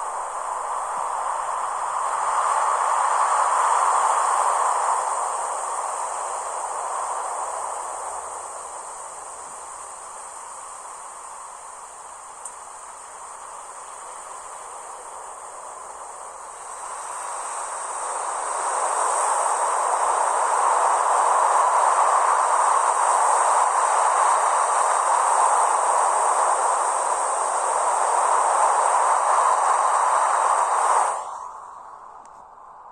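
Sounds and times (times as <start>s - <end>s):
high insect trill: 0.0s - 32.2s.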